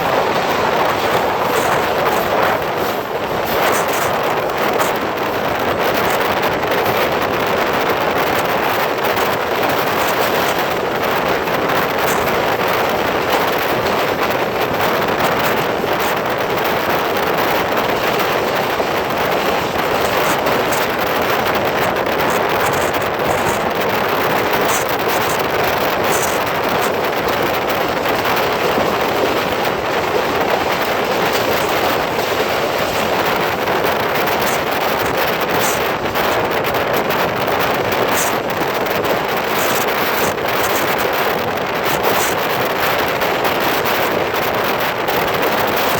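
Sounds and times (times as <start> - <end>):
train wheels on rails: 0.0 - 45.9
wind buffeting microphone: 0.0 - 45.9.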